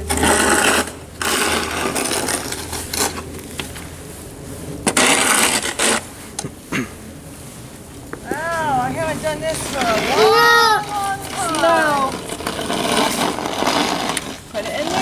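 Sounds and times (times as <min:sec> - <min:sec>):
snow shovel scraping snow: 0:00.0 - 0:15.0.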